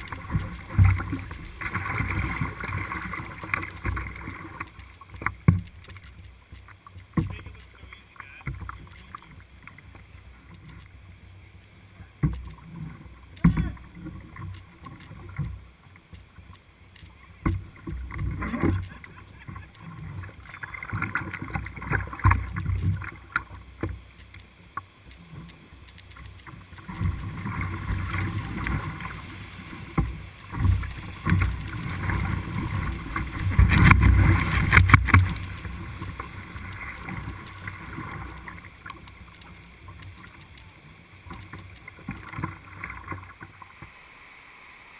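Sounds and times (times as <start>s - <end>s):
paddle strokes splashing: 0.0s - 44.9s
river water rushing: 0.0s - 44.9s.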